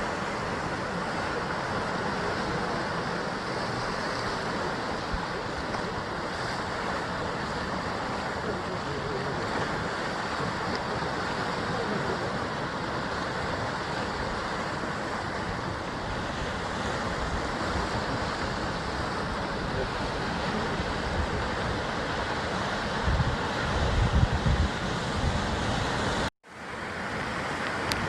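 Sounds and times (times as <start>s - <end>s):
wind on microphone: 0.0s - 26.3s
sea waves on rocks: 0.0s - 28.0s.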